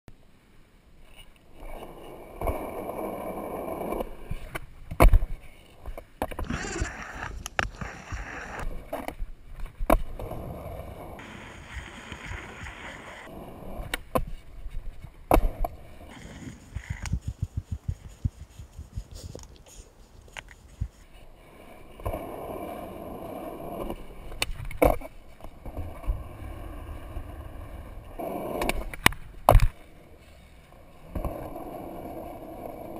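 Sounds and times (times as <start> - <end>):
skateboard wheels rolling on concrete: 0.2 - 32.9.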